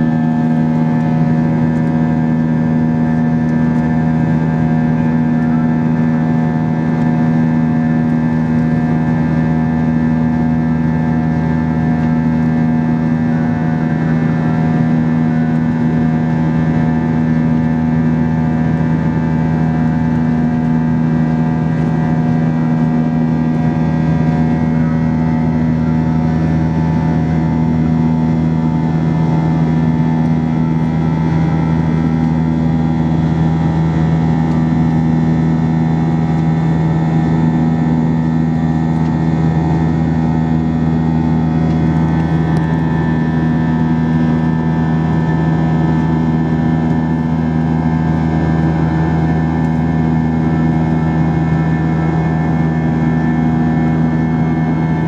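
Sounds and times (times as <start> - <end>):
jet engine drone: 0.0 - 55.0.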